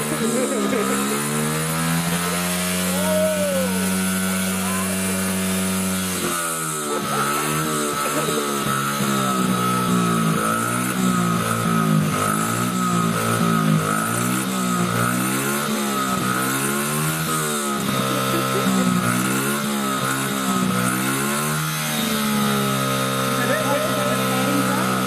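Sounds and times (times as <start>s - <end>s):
small motorbike engine revving: 0.0s - 25.0s.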